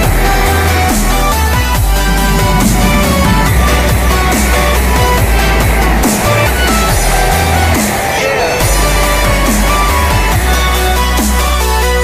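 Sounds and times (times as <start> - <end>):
music with heavy bass beat: 0.0 - 12.0.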